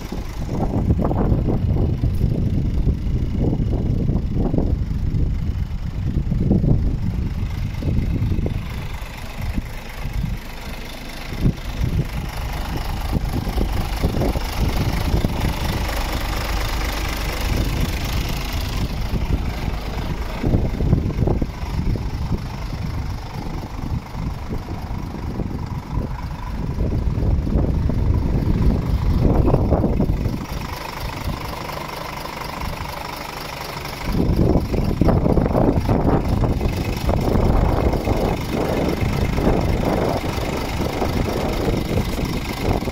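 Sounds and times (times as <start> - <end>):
diesel truck engine idling: 0.0 - 42.9.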